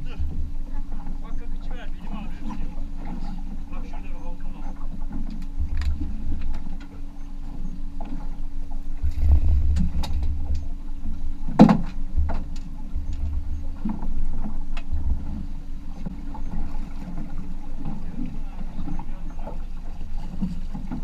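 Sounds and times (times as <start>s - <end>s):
clicks and knocks from rod and boat: 0.0s - 21.0s
outboard motor humming: 0.0s - 21.0s
wind buffeting microphone: 0.0s - 21.0s.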